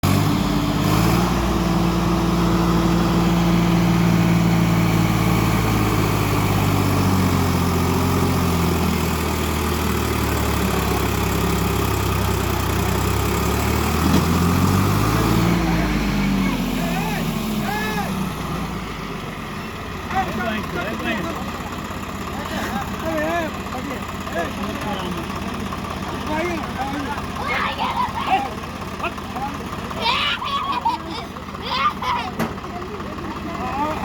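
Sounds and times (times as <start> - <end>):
tractor engine revving: 0.0 - 34.0.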